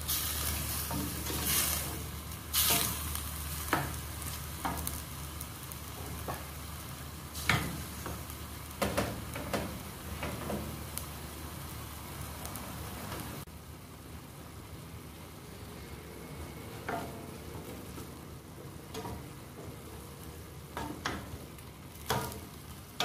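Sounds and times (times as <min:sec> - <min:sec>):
chicken and onion sizzling: 0:00.0 - 0:23.0.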